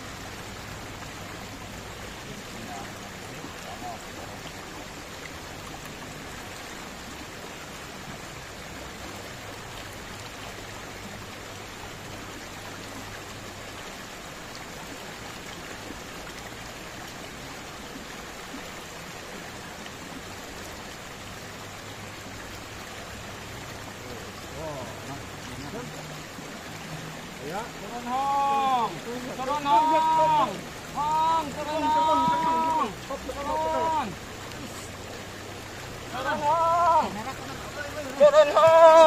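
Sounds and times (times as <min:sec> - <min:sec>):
river flowing over stones: 0:00.0 - 0:39.0.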